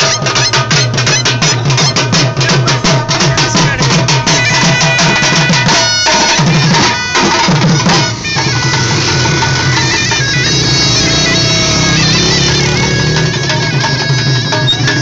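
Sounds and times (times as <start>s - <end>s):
drum beaten in fast rhythm: 0.0s - 15.0s
shrill reed pipe: 0.0s - 15.0s.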